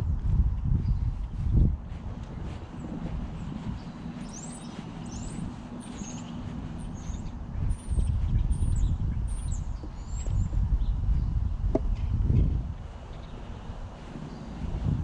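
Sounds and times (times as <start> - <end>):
low rumble: 0.0 - 12.9
small birds chirping: 0.7 - 15.0.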